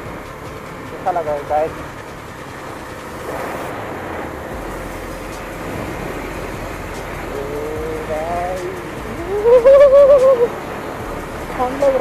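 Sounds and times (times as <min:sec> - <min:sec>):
motorcycle engine running: 0:00.0 - 0:12.0
road noise: 0:00.0 - 0:12.0
wind rush: 0:00.0 - 0:12.0.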